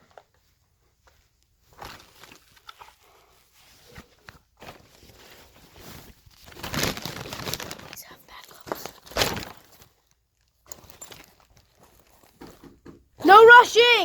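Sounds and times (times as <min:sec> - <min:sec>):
rustling of movement: 0:00.0 - 0:13.9.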